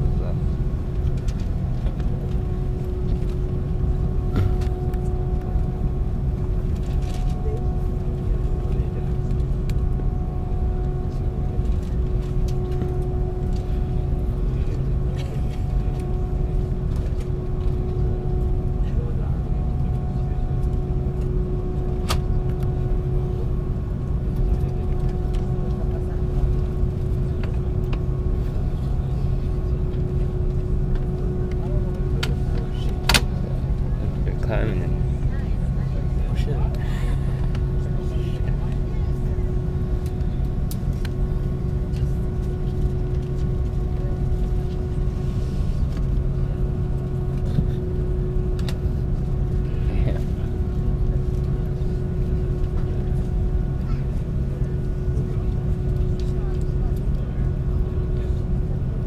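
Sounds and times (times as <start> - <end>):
aircraft cabin rumble: 0.0 - 59.0
faint steady whine: 0.0 - 59.0
steady hum: 0.0 - 59.0.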